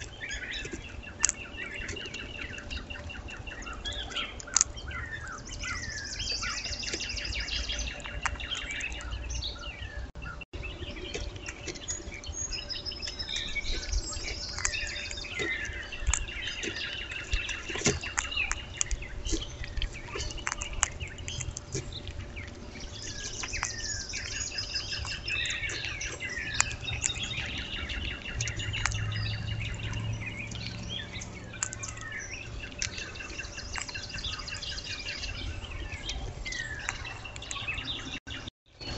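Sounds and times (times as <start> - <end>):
squirrel cracking seeds: 0.0 - 9.4, 11.0 - 37.7
songbirds chirping and trilling: 0.0 - 38.9.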